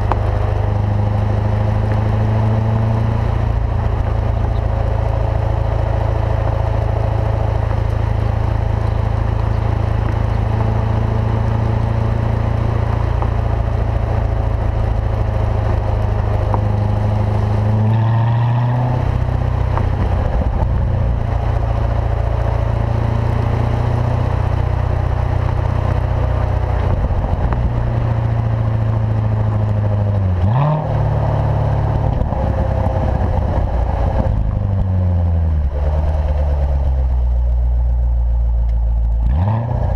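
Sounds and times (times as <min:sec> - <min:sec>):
car engine at low revs: 0:00.0 - 0:39.9.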